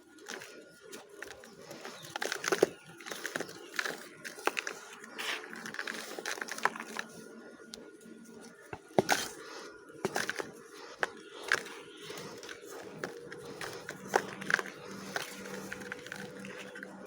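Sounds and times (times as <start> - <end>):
dry clay chunks crumbling: 0.1 - 7.9, 8.5 - 17.0.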